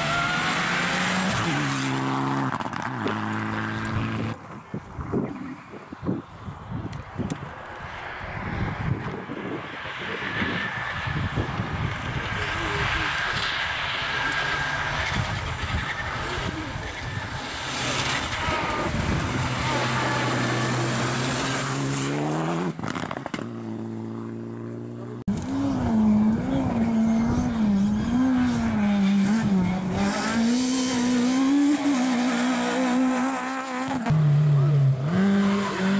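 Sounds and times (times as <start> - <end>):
rally car engine revving: 0.0 - 4.4, 9.9 - 35.9
second rally car engine: 0.0 - 6.2, 7.2 - 35.9.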